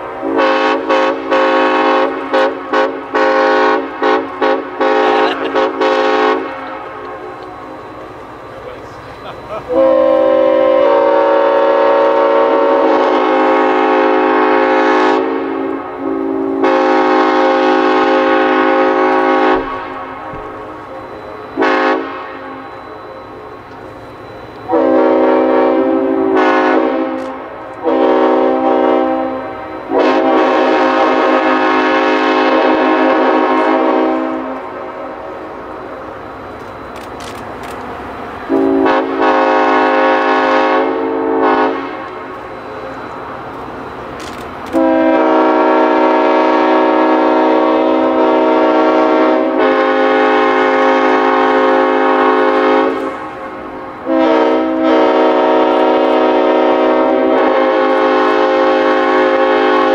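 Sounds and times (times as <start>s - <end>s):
locomotive air horn blasts: 0.0s - 7.3s, 9.7s - 20.6s, 21.4s - 22.7s, 24.6s - 35.5s, 38.5s - 42.6s, 44.2s - 59.9s
passing train rumble: 0.0s - 59.9s.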